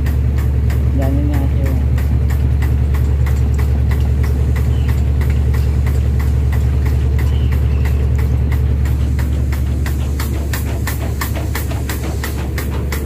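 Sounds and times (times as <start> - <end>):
pump clicking rhythmically: 0.0 - 13.0
truck engine and compressor hum: 0.0 - 13.0.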